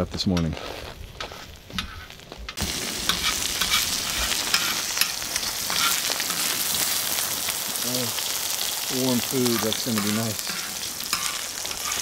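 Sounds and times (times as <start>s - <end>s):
eggs sizzling in oil: 1.0s - 12.0s.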